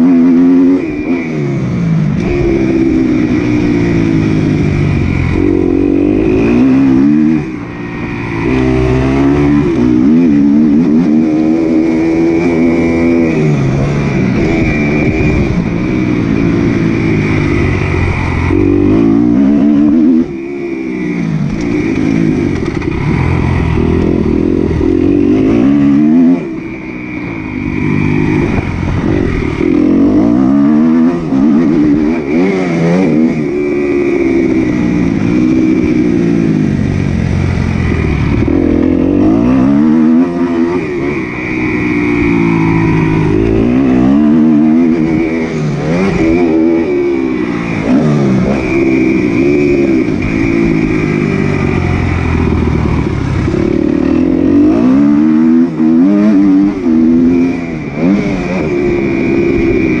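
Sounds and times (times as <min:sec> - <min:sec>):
motocross bikes revving: 0:00.0 - 1:00.0.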